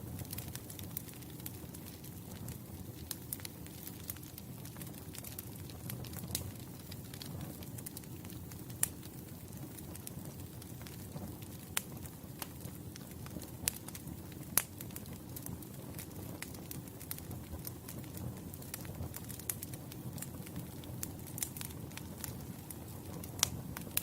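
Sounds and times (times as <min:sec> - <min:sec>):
campfire crackling: 0:00.0 - 0:24.0
low rush of burning wood: 0:00.0 - 0:24.0.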